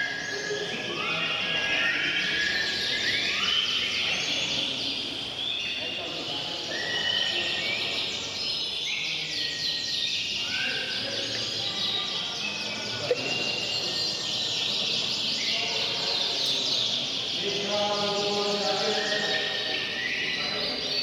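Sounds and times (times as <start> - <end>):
canaries singing: 0.0 - 21.0.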